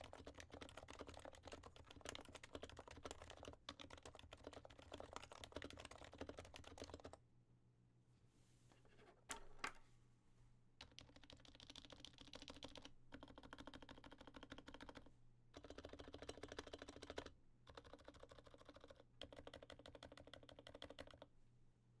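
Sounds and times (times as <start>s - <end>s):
fast keyboard typing: 0.0s - 7.2s, 10.8s - 21.3s.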